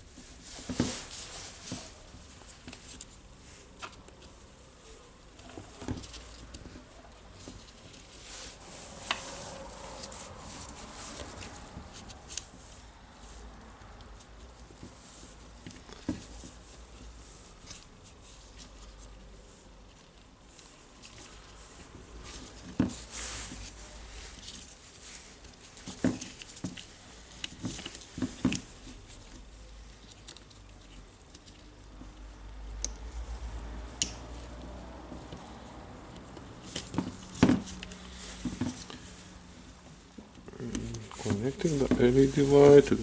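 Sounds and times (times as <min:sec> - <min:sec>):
clicks and rustles of plastic parts: 0:00.1 - 0:43.0.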